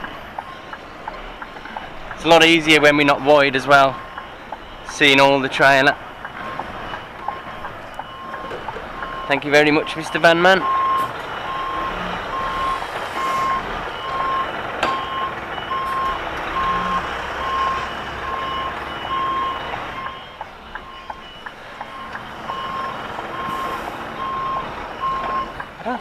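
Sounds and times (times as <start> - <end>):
reversing alarm beeping: 0.0 - 25.8
diesel engine running: 0.0 - 26.0.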